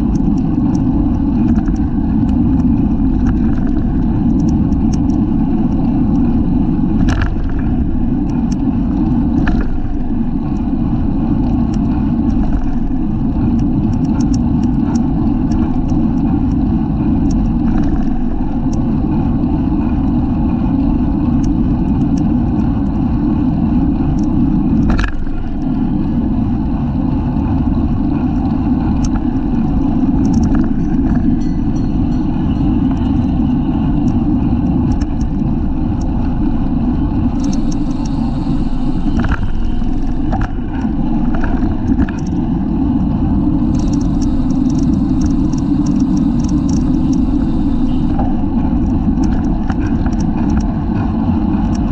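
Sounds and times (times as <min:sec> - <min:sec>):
road rumble: 0:00.0 - 0:51.9
wind rush: 0:00.0 - 0:51.9.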